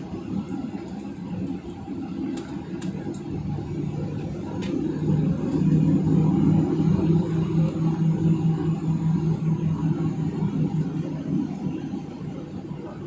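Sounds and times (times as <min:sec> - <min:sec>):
airplane engine rumble in cabin: 0:00.0 - 0:13.0.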